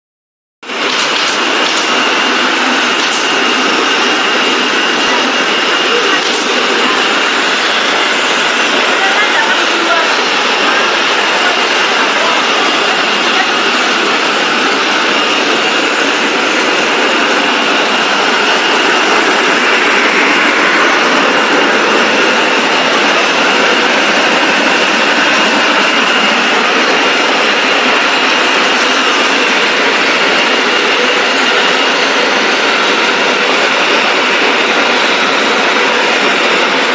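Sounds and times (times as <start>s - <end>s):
cutting machine rushing noise: 0.6s - 36.9s.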